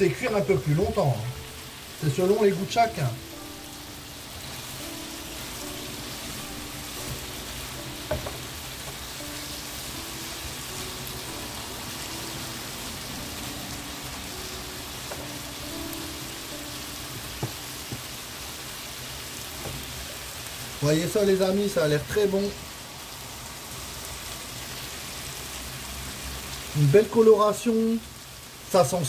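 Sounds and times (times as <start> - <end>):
chicken sizzling in a frying pan: 0.0 - 29.0.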